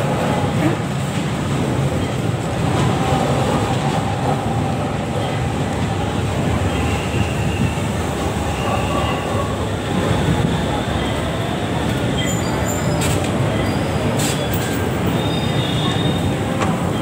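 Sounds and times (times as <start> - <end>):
wheels on rail: 0.0 - 17.0.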